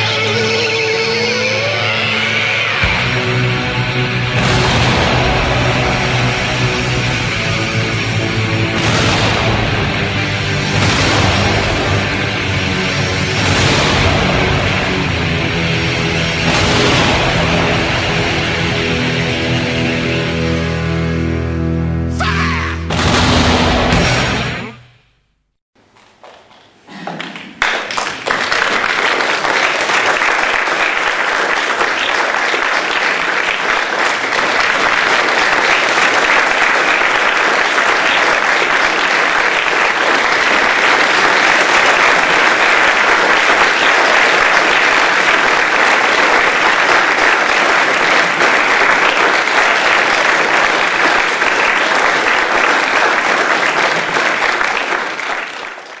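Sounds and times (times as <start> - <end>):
crowd applause: 0.0 - 21.3, 26.3 - 56.0.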